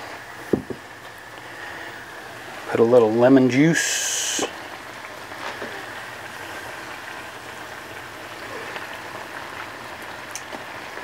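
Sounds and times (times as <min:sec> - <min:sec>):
broth boiling in a wok: 0:00.0 - 0:11.0.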